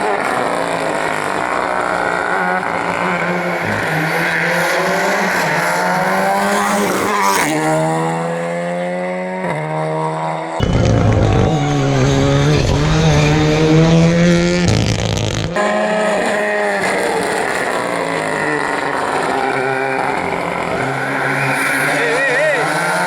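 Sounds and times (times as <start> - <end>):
rally car engine accelerating: 0.0 - 23.0.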